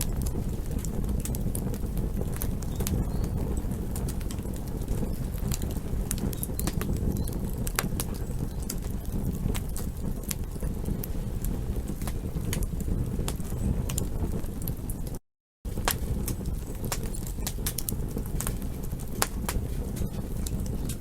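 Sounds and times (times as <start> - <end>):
low rush of flames: 0.0 - 21.0
wood crackling and popping: 0.0 - 21.0.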